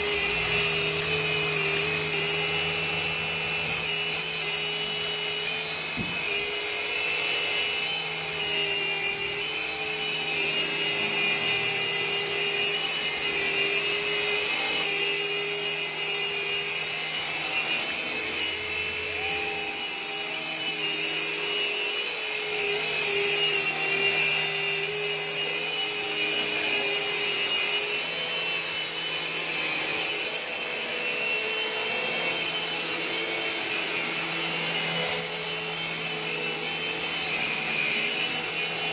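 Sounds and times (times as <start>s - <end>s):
toy helicopter motors whining: 0.0s - 38.9s.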